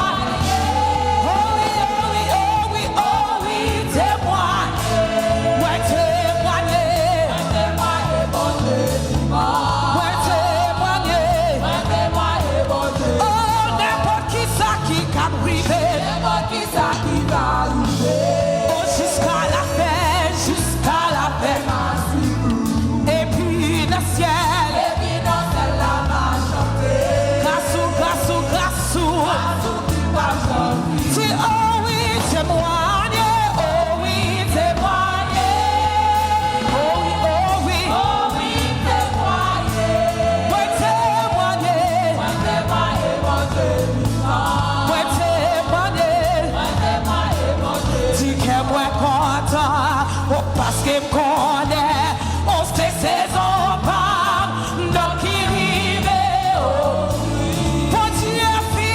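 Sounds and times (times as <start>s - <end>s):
band with bass and drums: 0.0s - 58.9s
singers singing gospel melody: 0.0s - 58.9s.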